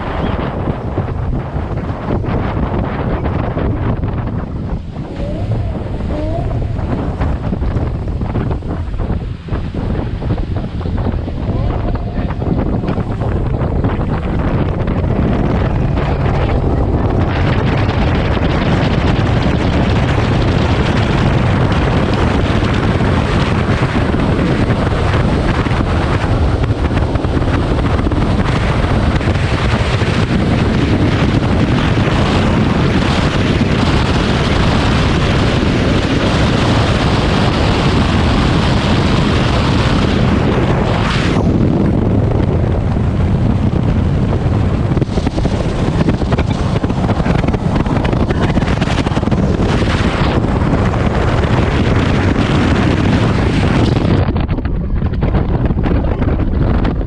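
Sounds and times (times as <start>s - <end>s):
boat engines droning: 0.0s - 53.2s
rushing water: 0.0s - 54.2s
wind buffeting microphone: 0.0s - 57.0s.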